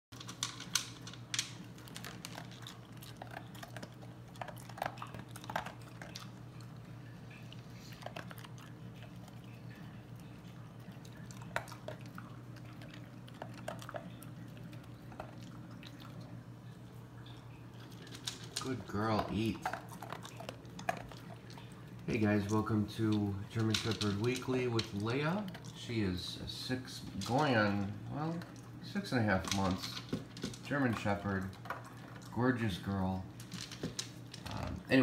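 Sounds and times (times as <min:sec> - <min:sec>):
dog crunching dry kibble: 0:00.1 - 0:06.9, 0:07.8 - 0:16.3, 0:17.7 - 0:26.0, 0:26.8 - 0:34.8.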